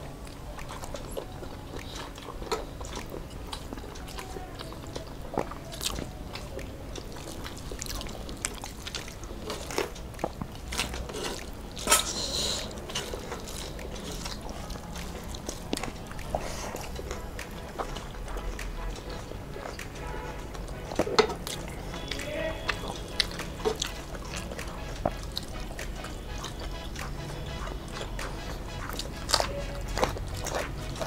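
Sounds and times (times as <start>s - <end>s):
chewing and mouth noises: 0.0s - 31.0s.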